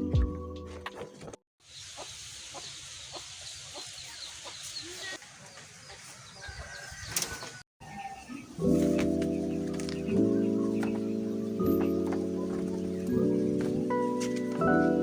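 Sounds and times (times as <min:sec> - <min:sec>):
chickens clucking: 0:01.0 - 0:14.9
small birds chirping: 0:01.0 - 0:15.0.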